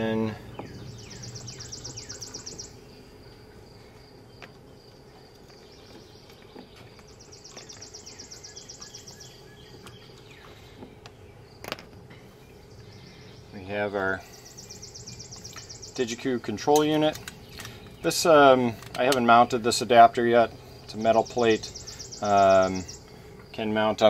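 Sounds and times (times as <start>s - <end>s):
faint chirps: 0.0s - 16.8s, 20.6s - 23.8s.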